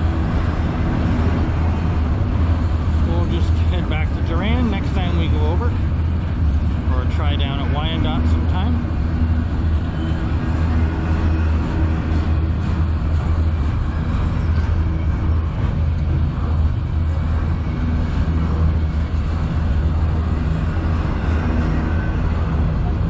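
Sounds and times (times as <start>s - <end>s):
constant low hum: 0.0s - 23.0s
low vehicle rumble: 0.0s - 23.0s.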